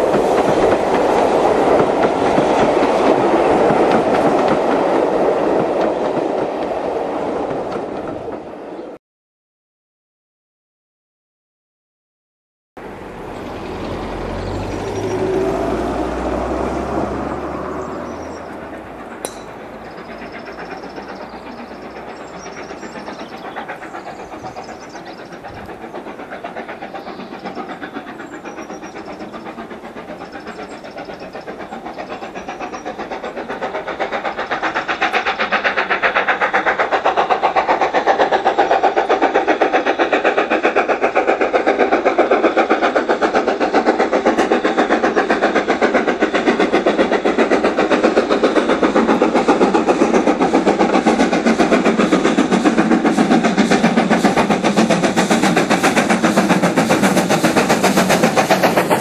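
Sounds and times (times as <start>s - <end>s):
steam locomotive exhaust beats: 0.0s - 8.7s, 12.8s - 59.0s.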